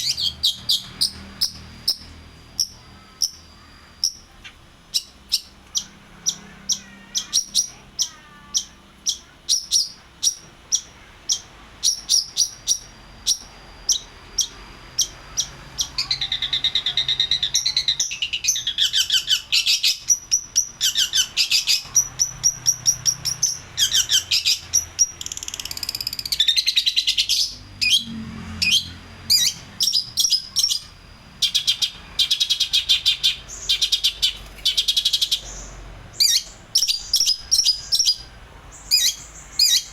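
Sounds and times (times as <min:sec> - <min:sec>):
shrike chirps and warbling: 0:00.0 - 0:39.9.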